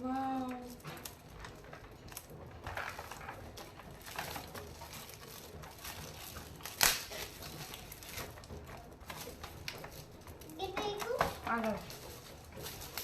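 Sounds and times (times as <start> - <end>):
gift wrapping crinkling and tearing: 0.0 - 13.0.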